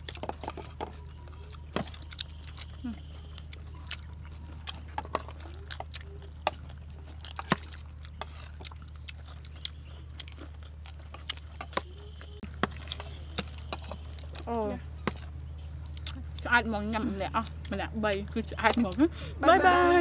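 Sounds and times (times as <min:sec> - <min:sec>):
chewing crispy food: 0:00.0 - 0:20.0.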